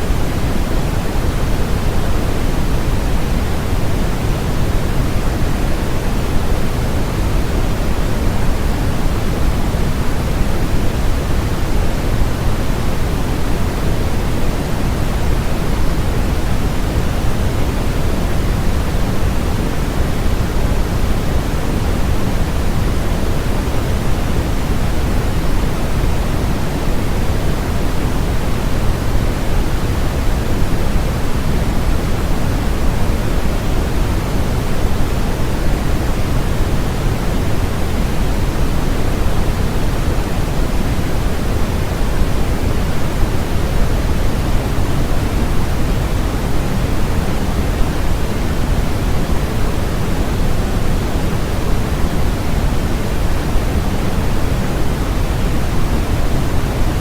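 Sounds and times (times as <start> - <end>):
white noise: 0.0 - 57.0.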